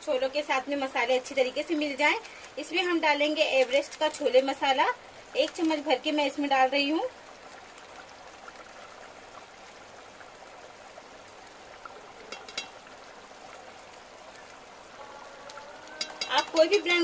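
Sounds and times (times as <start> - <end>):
pot bubbling and gurgling: 0.0 - 17.0.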